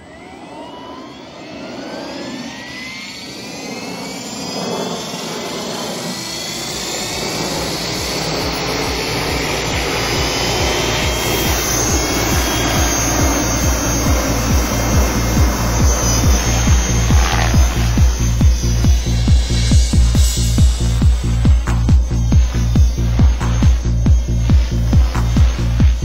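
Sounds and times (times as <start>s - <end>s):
rc helicopter motor whine: 0.0s - 26.0s
low pulsing: 1.6s - 26.0s.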